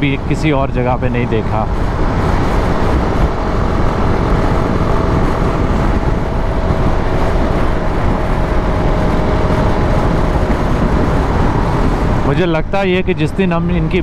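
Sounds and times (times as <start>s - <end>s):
faint motorcycle engine hum: 0.0s - 14.0s
wind and road rush: 0.0s - 14.0s.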